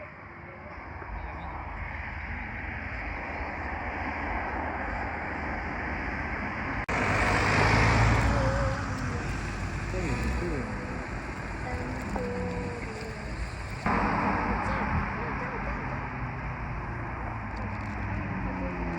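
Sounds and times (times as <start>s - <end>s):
car approaching: 0.0s - 18.9s.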